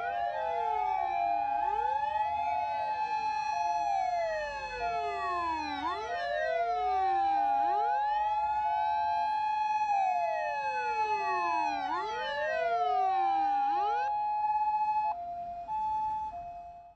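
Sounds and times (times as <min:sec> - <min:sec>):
fire engine sirens wailing: 0:00.0 - 0:16.9
two-note hi-lo siren: 0:00.0 - 0:16.9.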